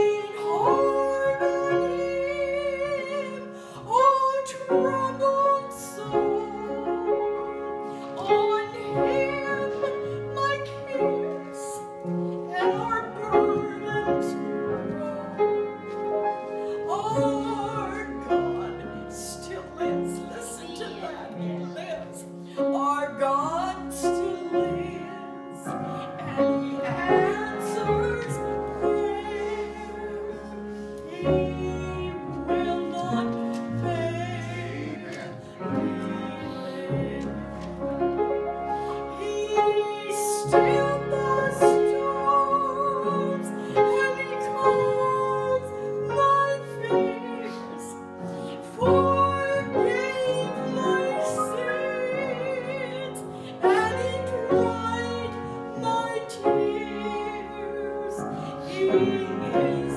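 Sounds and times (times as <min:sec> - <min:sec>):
woman singing gospel song: 0:00.0 - 0:16.0, 0:16.7 - 0:37.8, 0:39.0 - 0:59.9
instrumental accompaniment: 0:00.0 - 0:59.9.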